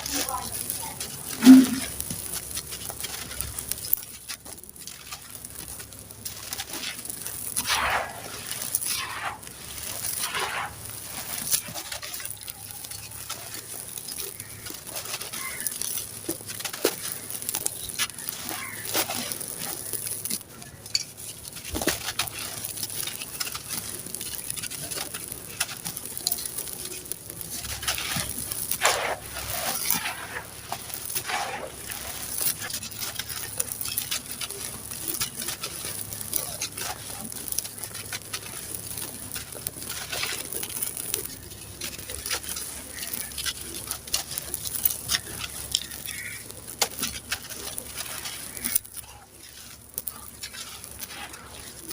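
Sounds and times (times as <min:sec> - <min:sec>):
grains and dust pattering: 0:00.0 - 0:51.9
sand-cement crumbling and crunching: 0:00.0 - 0:51.9.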